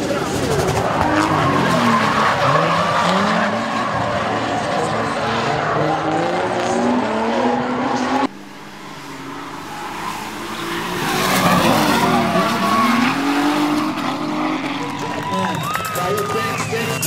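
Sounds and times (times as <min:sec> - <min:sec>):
tyres squealing and skidding: 0:00.0 - 0:06.7, 0:08.6 - 0:17.0
car engines revving hard: 0:00.0 - 0:17.0.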